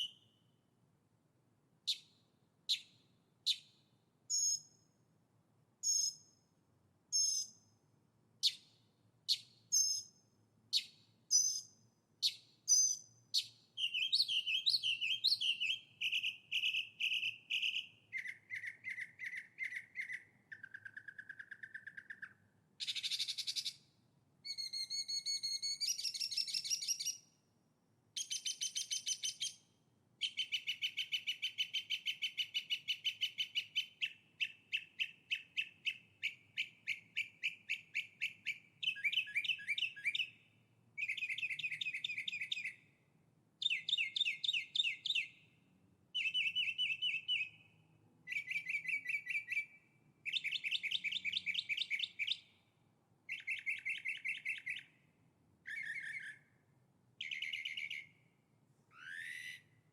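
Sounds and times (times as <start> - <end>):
songbird singing: 0.0 - 0.6, 1.8 - 5.0, 5.8 - 27.4, 28.2 - 59.9.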